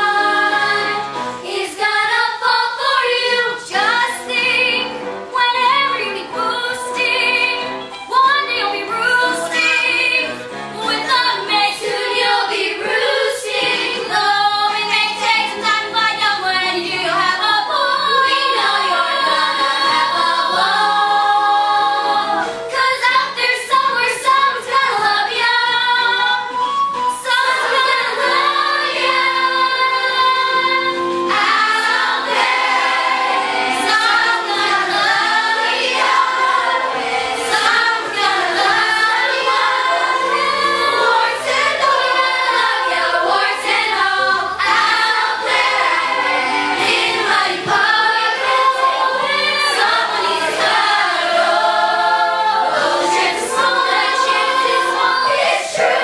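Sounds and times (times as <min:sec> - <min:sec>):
young voices singing in chorus: 0:00.0 - 0:04.9, 0:08.4 - 0:26.4, 0:27.2 - 0:56.0
musical accompaniment: 0:00.0 - 0:56.0.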